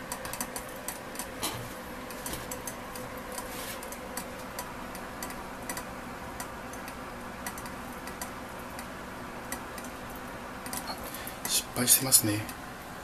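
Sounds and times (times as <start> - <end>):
sharp ticks and crackles: 0.0 - 1.4, 2.1 - 12.6
steady hum: 0.0 - 13.0.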